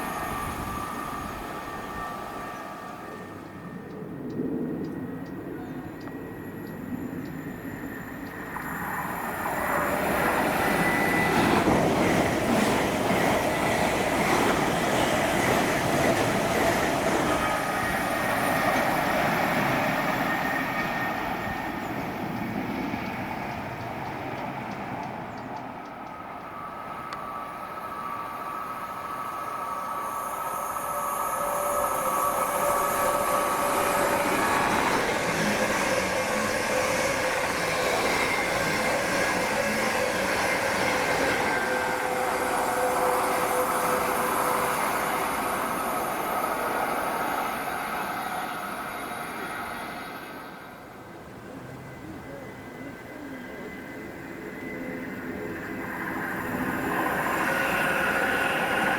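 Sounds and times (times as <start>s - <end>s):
train wheel and rail noise: 0.0s - 58.9s.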